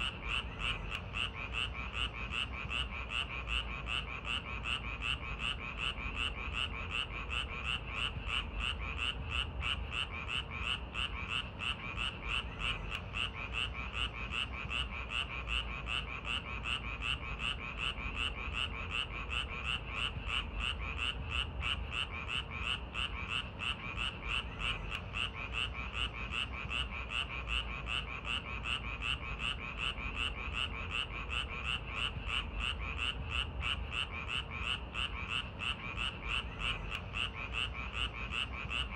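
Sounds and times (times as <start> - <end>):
frogs croaking: 0.0 - 38.9
low steady rumble: 0.0 - 38.9.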